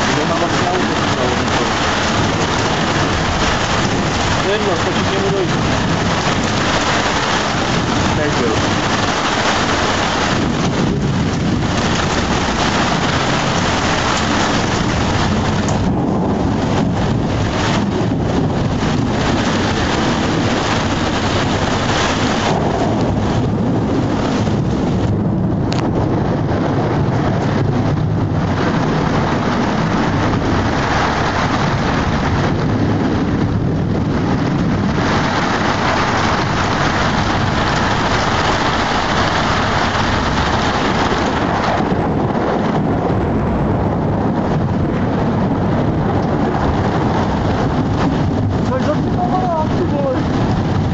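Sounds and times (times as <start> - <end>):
heavy rain: 0.0 - 50.9
low rolling thunder: 0.0 - 50.9.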